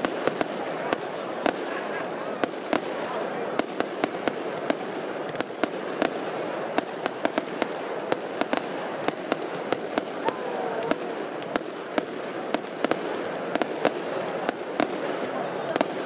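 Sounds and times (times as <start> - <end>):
fireworks bangs and pops: 0.0 - 16.0.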